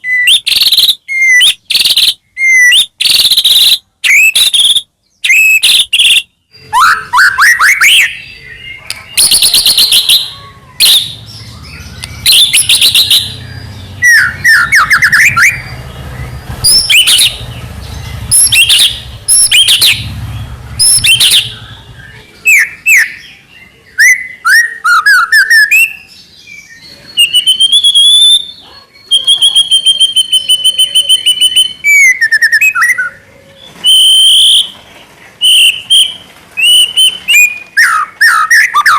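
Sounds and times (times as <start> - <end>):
songbird singing varied song: 0.0 - 34.8.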